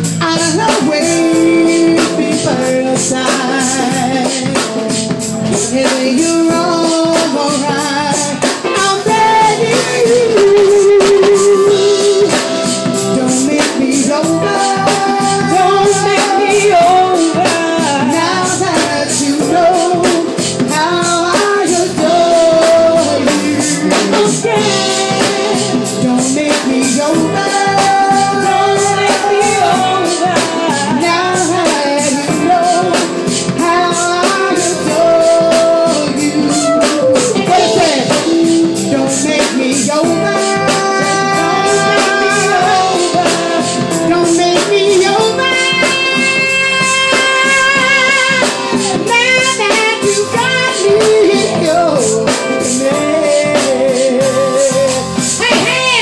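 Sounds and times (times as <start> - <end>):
live band music: 0.0 - 56.0
person singing wordless notes: 0.2 - 56.0.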